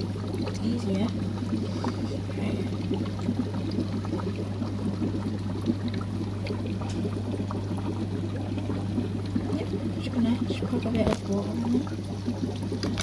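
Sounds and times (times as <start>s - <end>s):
aquarium water trickling: 0.0s - 13.0s
constant low hum: 0.0s - 13.0s.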